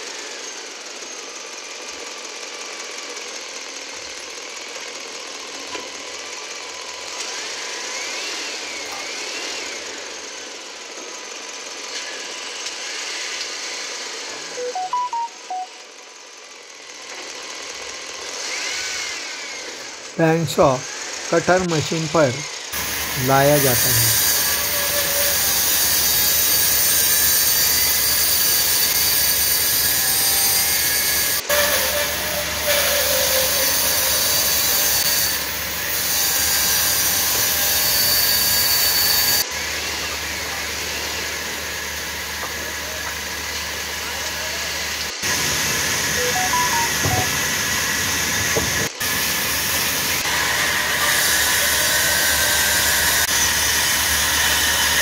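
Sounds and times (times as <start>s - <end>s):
band saw cutting wood: 0.0s - 14.6s, 16.9s - 55.0s.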